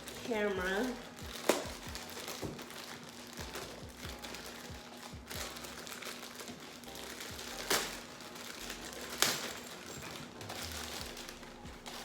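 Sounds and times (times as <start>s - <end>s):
faint background music: 0.0s - 12.0s
packaging crinkling: 0.0s - 12.0s.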